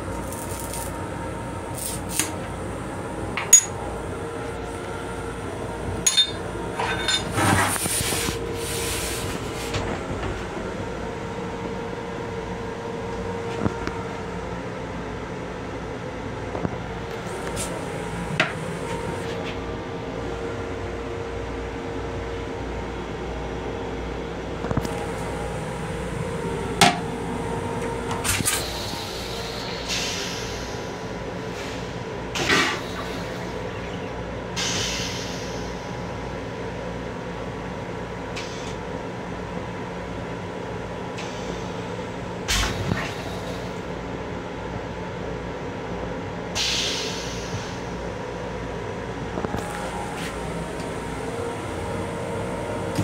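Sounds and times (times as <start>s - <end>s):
steady train hum: 0.0s - 53.0s.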